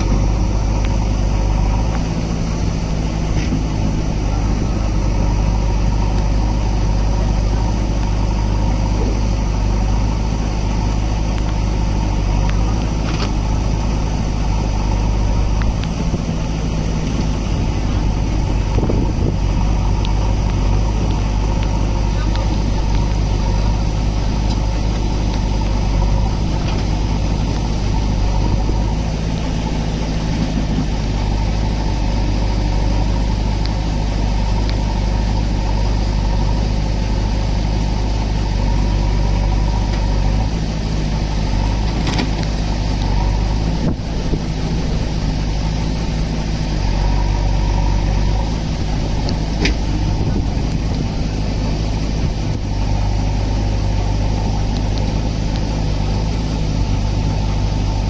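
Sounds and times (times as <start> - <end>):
backhoe loader engine running: 0.0 - 58.0
diesel tractor engine running: 0.0 - 58.0.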